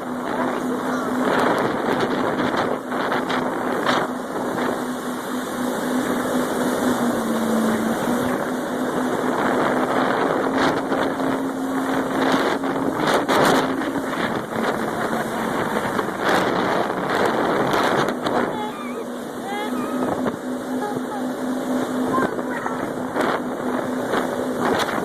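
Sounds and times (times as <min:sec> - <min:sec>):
jet ski engine running: 0:00.0 - 0:25.0
rushing water: 0:00.0 - 0:25.0
wind buffeting microphone: 0:00.0 - 0:25.0.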